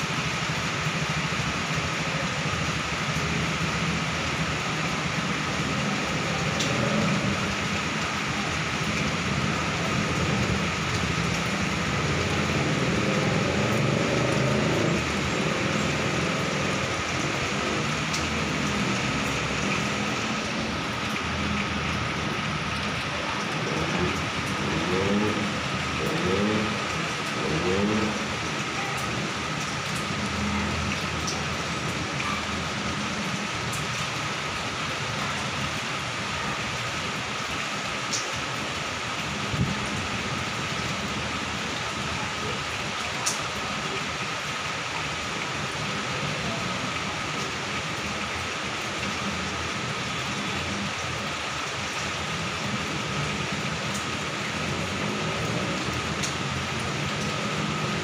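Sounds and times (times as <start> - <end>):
heavy rain: 0.0 - 58.0
heavy traffic rumble: 0.0 - 58.0.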